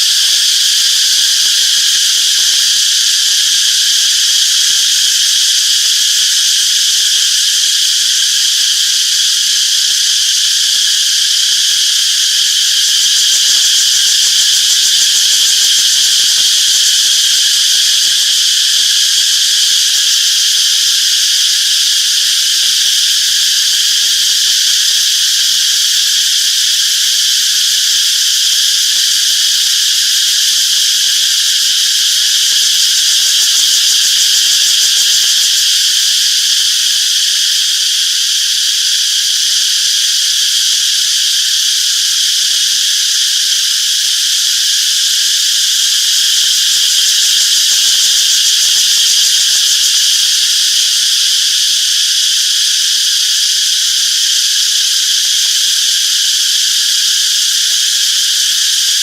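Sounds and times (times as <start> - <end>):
cicadas chorusing: 0.0 - 59.0.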